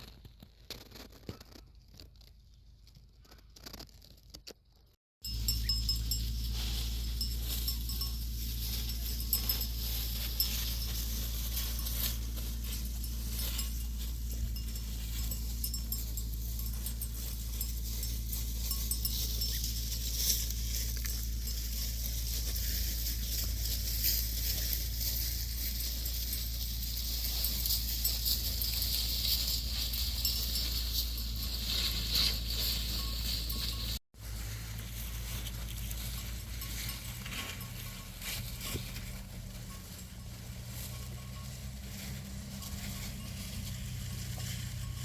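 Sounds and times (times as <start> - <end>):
animal bells clinking: 5.2 - 45.0.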